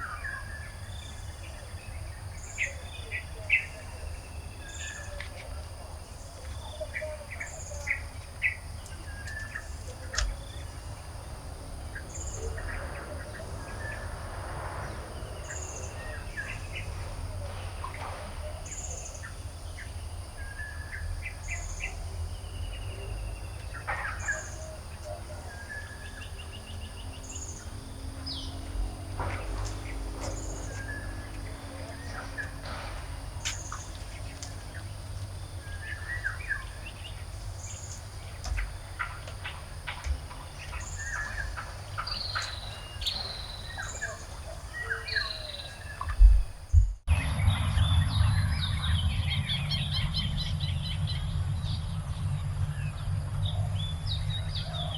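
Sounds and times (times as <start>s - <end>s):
birds chirping: 0.0s - 47.1s
low rumble: 8.7s - 54.7s.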